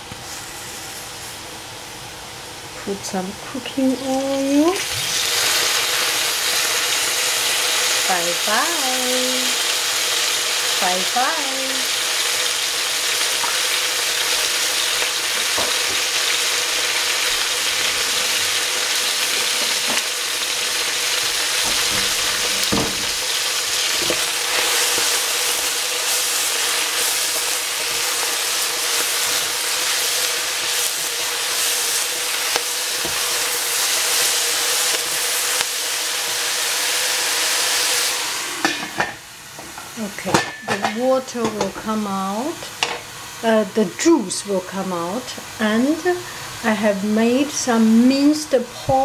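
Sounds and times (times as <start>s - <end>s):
cabbage sizzling in hot oil: 0.2s - 2.5s, 3.4s - 49.0s.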